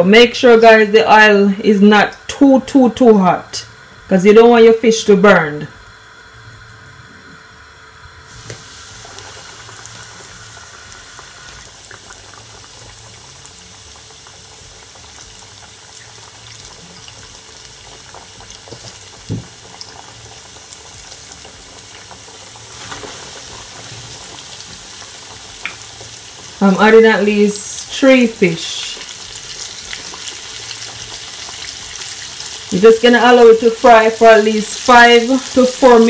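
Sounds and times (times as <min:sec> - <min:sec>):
fish deep-frying in oil: 0:00.0 - 0:36.0.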